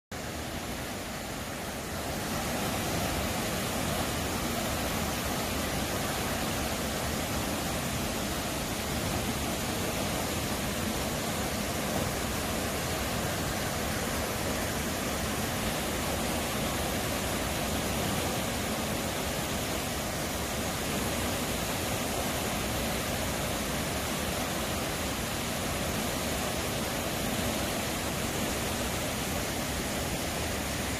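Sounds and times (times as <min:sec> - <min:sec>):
stream rushing over rocks: 0:00.1 - 0:30.9.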